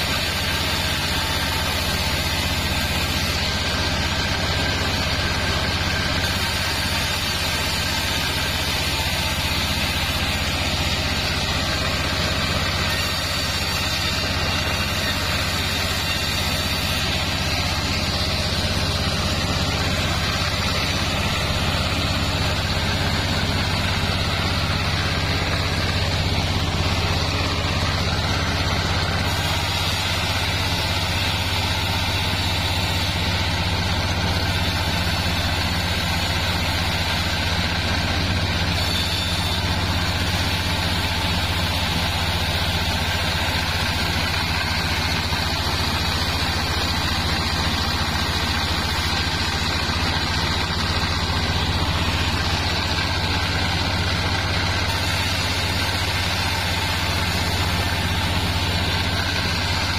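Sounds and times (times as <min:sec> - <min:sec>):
band saw humming: 0:00.0 - 0:59.9.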